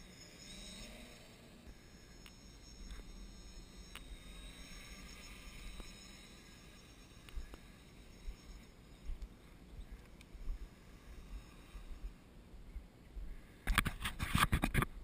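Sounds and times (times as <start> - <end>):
small ticks: 0.1 - 12.2.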